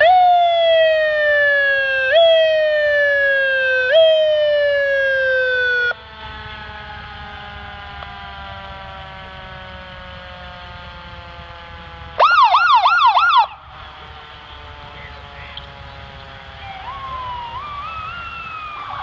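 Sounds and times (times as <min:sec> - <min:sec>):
faint siren tones: 0:00.0 - 0:19.0
siren sliding down in pitch: 0:00.0 - 0:19.0
siren yelp: 0:00.0 - 0:19.0.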